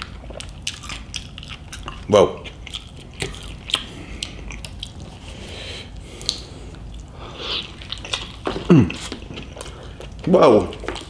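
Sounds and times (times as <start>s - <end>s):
close-up chewing and mouth sounds: 0.0s - 11.0s.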